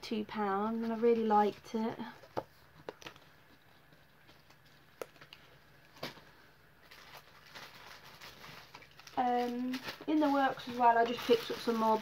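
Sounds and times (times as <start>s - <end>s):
soft rustling: 0.5s - 12.0s.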